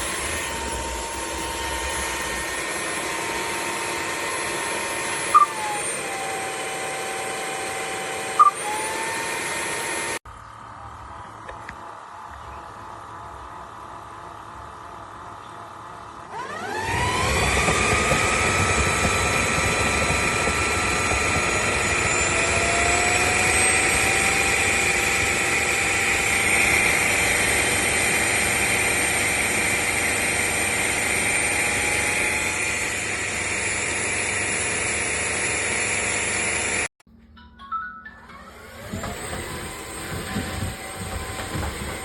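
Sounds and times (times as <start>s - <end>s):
vacuum motor whining: 0.0s - 10.2s, 15.7s - 37.0s, 38.4s - 42.0s.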